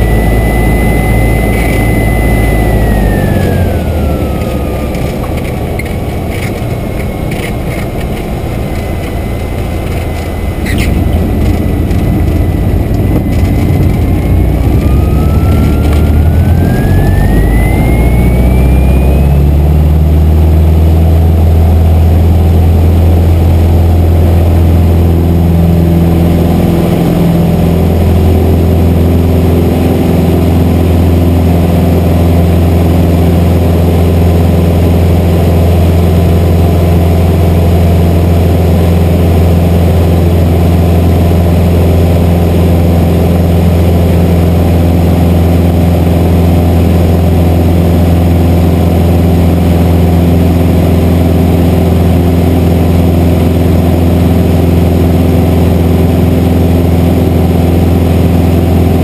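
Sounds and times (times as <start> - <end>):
airplane engine loud drone: 0.0 - 59.0.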